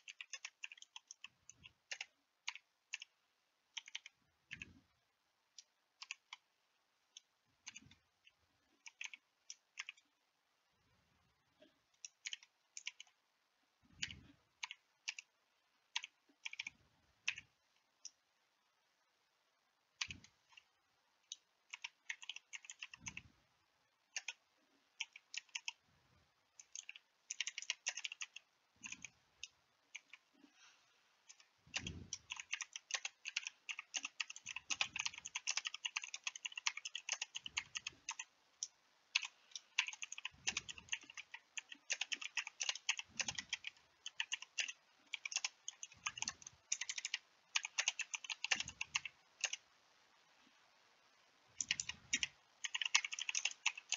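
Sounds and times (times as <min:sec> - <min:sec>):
keyboard typing: 0:00.0 - 0:04.8, 0:05.5 - 0:06.5, 0:07.1 - 0:10.1, 0:11.9 - 0:13.2, 0:13.9 - 0:18.2, 0:20.0 - 0:23.3, 0:24.1 - 0:25.8, 0:26.5 - 0:30.4, 0:31.2 - 0:49.6, 0:51.6 - 0:53.9.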